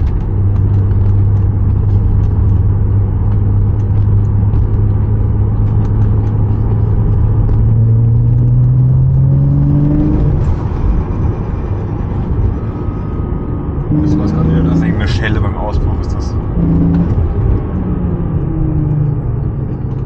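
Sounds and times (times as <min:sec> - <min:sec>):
car engine under load: 0:00.0 - 0:20.0.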